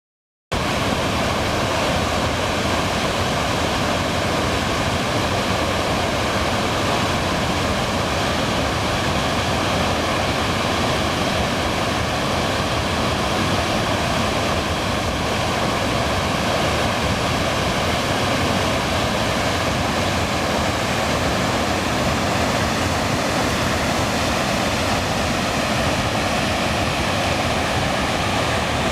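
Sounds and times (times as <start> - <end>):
waterfall rushing: 0.6 - 28.9.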